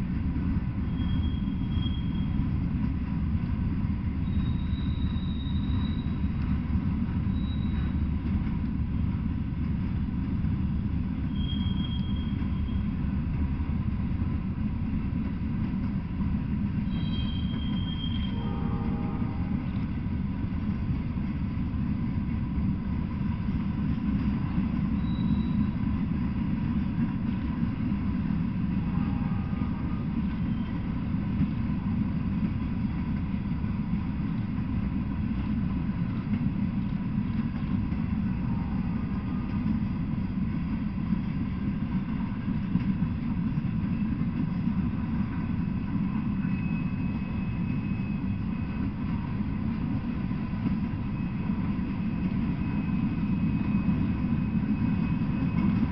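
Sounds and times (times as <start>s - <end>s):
freight train rumbling on rails: 0.0s - 55.9s.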